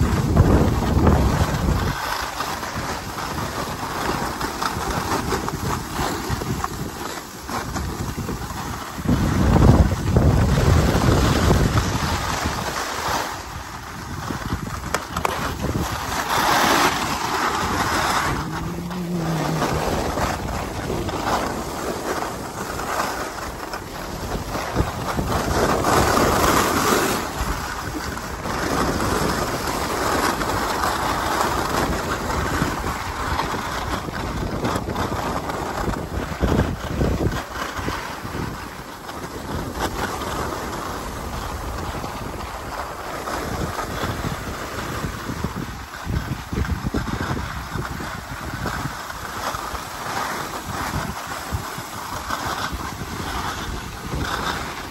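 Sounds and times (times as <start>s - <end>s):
skis scraping over snow: 0.0s - 54.9s
wind buffeting microphone: 0.0s - 54.9s.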